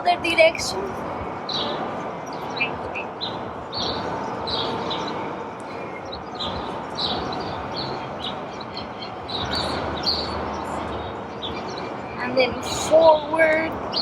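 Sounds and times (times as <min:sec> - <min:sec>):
small birds chirping: 0:01.5 - 0:14.0.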